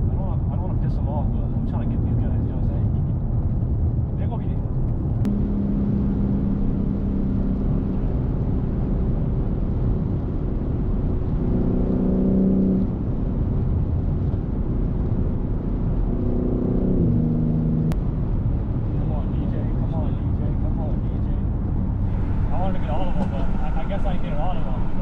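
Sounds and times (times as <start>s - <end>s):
car engine drone: 0.0s - 25.0s
road and wind rumble: 0.0s - 25.0s.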